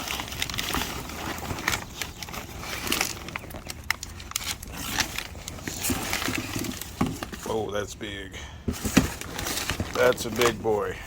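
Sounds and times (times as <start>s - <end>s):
cardboard box rustling: 0.0s - 7.7s, 8.6s - 10.9s
styrofoam packing handled: 0.0s - 7.9s, 8.6s - 11.0s.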